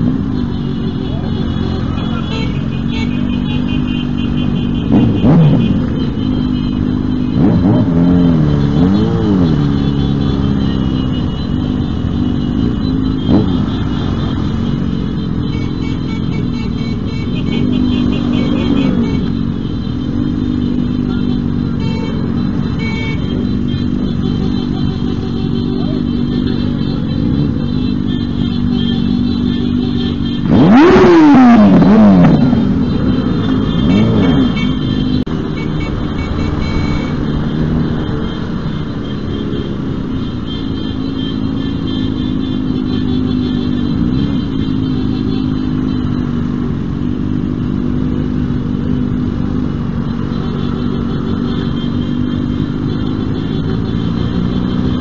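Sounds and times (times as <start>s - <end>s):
motorcycle engine revving: 0.0s - 55.0s
motorcycle engines running: 0.0s - 55.0s.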